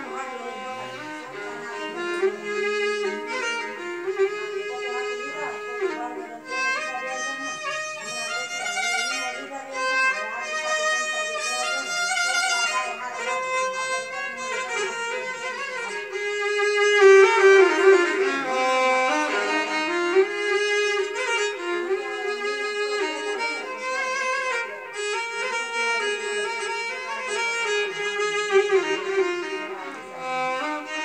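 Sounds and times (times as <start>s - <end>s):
solo violin melody: 0.0s - 31.0s.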